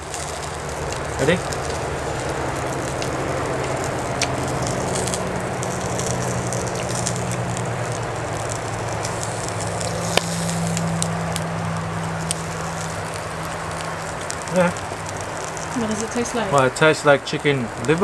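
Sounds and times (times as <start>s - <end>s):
charcoal grill crackling: 0.0s - 18.0s
sharp pops: 0.0s - 18.0s
steady low hum: 0.0s - 18.0s.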